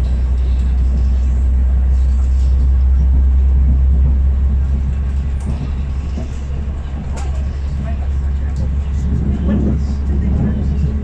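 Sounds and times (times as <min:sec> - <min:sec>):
diesel train rumbling: 0:00.0 - 0:11.0.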